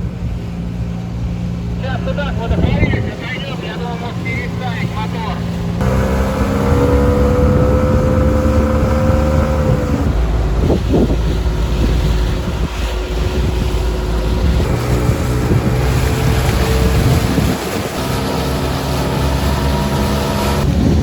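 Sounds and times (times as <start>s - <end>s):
wind and water noise: 0.0s - 21.0s
outboard motor running: 3.6s - 21.0s.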